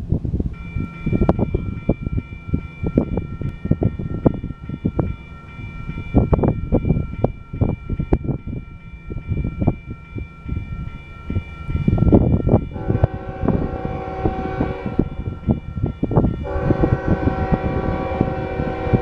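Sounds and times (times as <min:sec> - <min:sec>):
wind buffeting microphone: 0:00.0 - 0:19.0
crossing warning bell ringing: 0:00.4 - 0:19.0.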